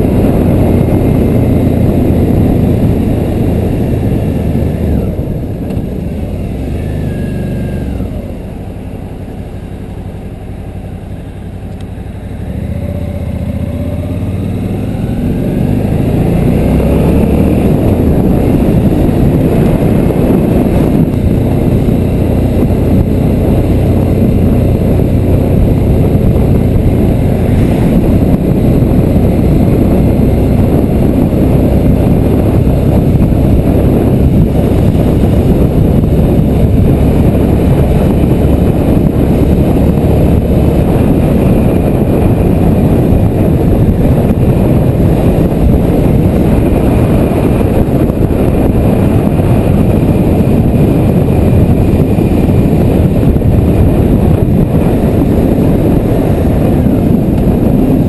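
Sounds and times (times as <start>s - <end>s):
motorcycle engine: 0.0s - 58.0s
wind rushing on microphone: 0.0s - 58.0s.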